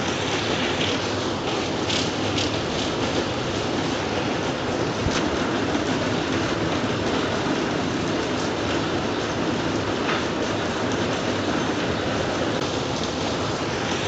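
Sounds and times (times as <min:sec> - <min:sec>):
sharp raindrops: 0:00.0 - 0:14.0
steady rain hiss: 0:00.0 - 0:14.0.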